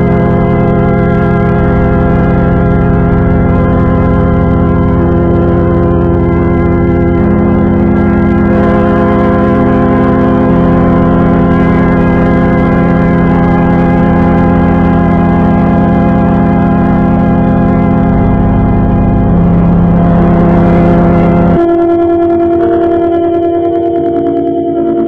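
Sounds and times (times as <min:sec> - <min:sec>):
sustained organ-like chord: 0:00.0 - 0:25.0.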